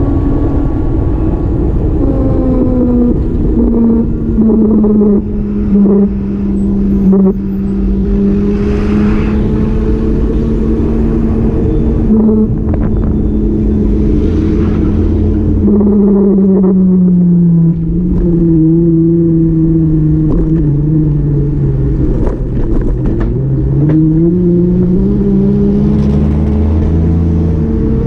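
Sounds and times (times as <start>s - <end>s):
road rumble: 0.0s - 28.0s
vehicle engine running: 0.0s - 28.0s.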